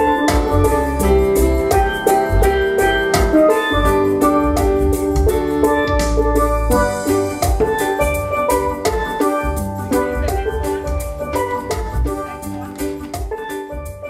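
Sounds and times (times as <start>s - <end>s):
drum and bass beat: 0.0s - 14.0s
steel pans playing reggae: 0.0s - 14.0s.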